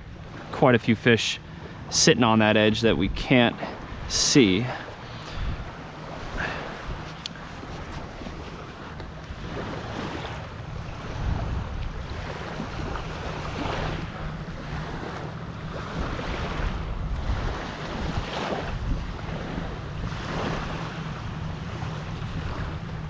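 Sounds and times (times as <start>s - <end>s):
small waves lapping on sand: 0.0s - 23.0s
wind buffeting microphone: 2.7s - 23.0s.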